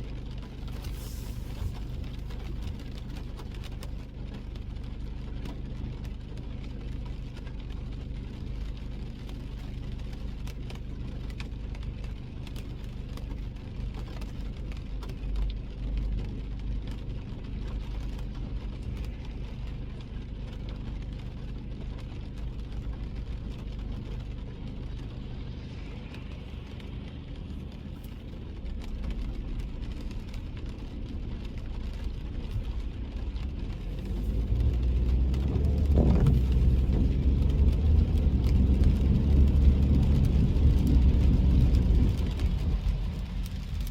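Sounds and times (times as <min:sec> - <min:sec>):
car engine and tyres rumbling: 0:00.0 - 0:43.9
rain ticking on car: 0:00.0 - 0:43.9.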